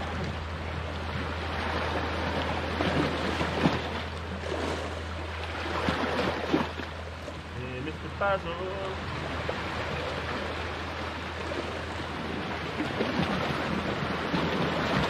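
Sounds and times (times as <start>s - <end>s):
waves splashing against rocks: 0.0s - 15.0s.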